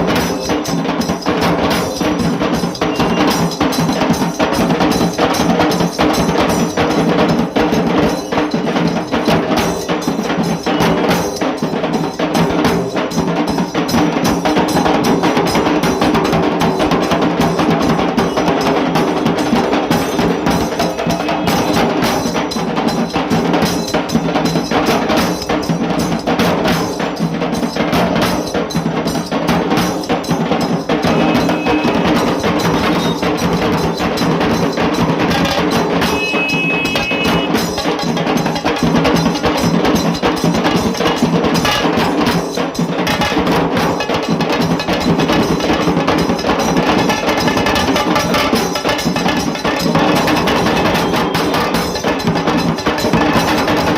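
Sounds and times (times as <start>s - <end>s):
drums beaten in fast rhythm: 0.0s - 53.9s.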